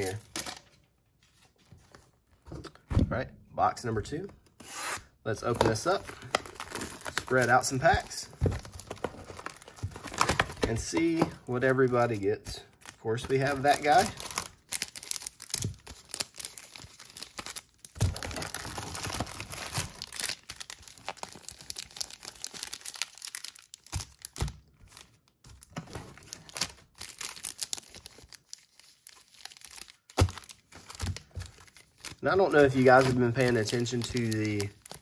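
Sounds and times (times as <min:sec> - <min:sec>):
plastic wrappers crinkling: 0:05.4 - 0:35.0.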